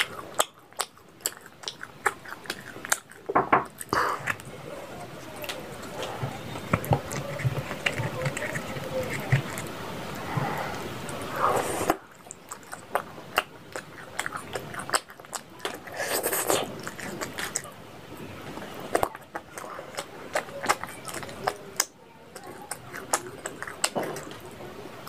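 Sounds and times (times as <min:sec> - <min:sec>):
lip smacks and clicks: 0:00.0 - 0:04.6, 0:05.2 - 0:17.7, 0:18.4 - 0:24.6
wet chewing: 0:00.0 - 0:25.0.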